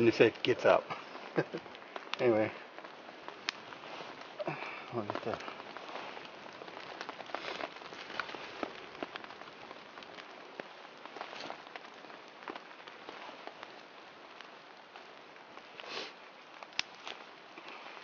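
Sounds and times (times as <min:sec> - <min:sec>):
twig fire crackling: 0:00.0 - 0:18.0.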